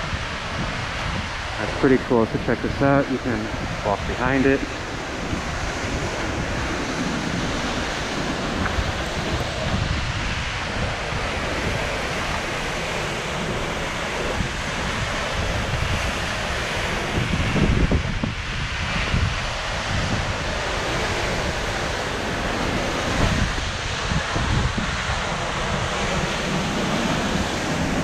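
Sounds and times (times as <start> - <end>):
waterfall roaring: 0.0 - 28.0
wind buffeting microphone: 0.0 - 28.0.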